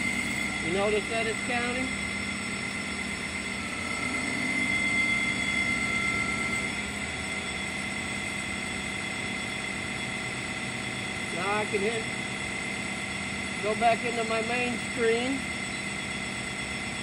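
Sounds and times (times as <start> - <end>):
sawmill drive hum with high whine: 0.0 - 17.0.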